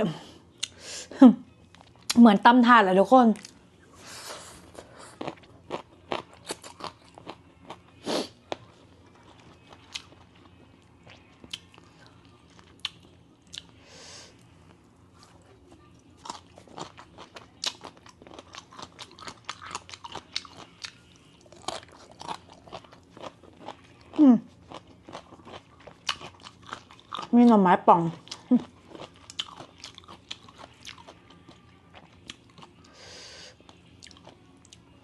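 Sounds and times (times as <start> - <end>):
crunching and chewing salad: 1.6 - 2.3, 3.2 - 35.0.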